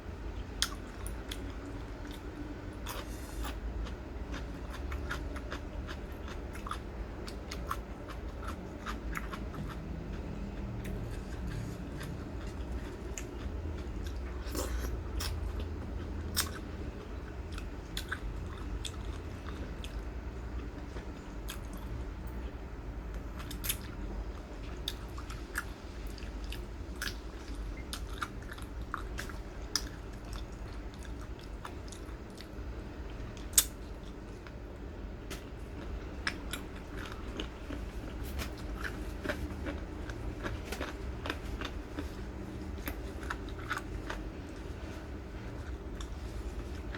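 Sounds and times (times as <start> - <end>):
person chewing crunchy food: 0.3 - 22.0, 23.2 - 34.6, 35.3 - 46.9.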